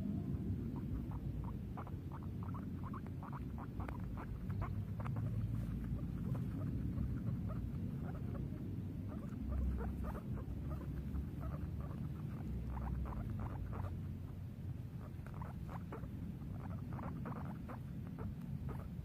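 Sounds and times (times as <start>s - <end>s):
steady low rumble: 0.0s - 19.0s
guinea pig squeaking: 0.6s - 19.0s.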